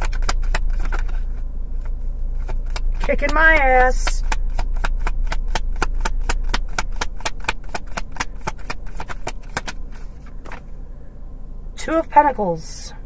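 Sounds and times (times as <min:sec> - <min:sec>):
cards being shuffled: 0:00.0 - 0:10.7.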